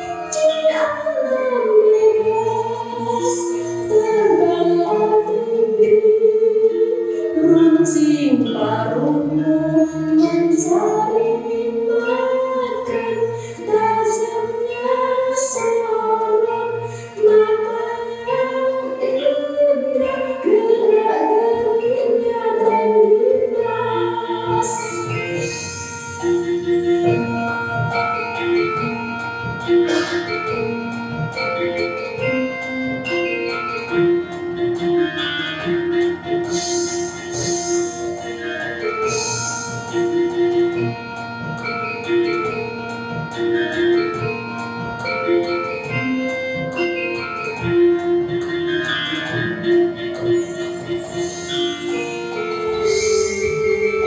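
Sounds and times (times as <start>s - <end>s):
wavering vocal melody: 0.0s - 41.2s, 50.2s - 54.0s
gamelan instruments: 0.0s - 54.0s.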